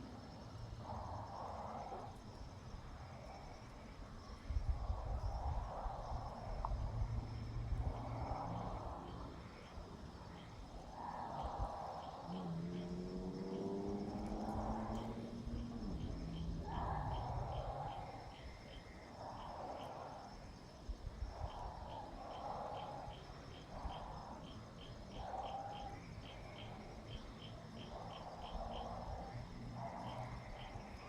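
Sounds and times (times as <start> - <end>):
insects chirping in pulses: 0.0 - 31.0.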